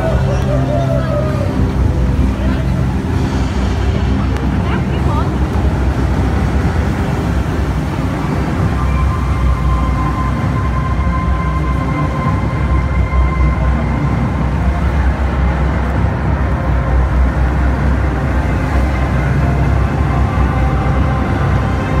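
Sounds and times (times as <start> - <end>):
dark droning music over loudspeakers: 0.0 - 22.0
heavy low rumble: 0.0 - 22.0.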